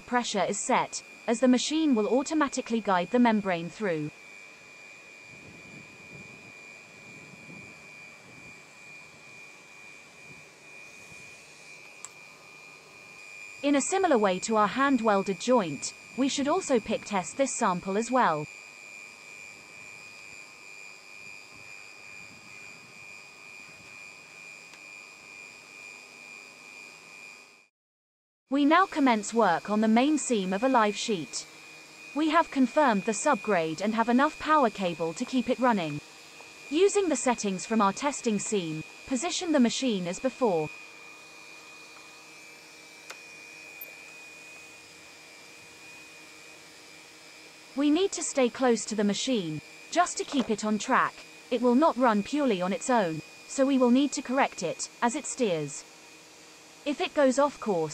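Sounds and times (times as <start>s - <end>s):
high-pitched machine whine: 0.0s - 27.7s, 28.5s - 57.9s.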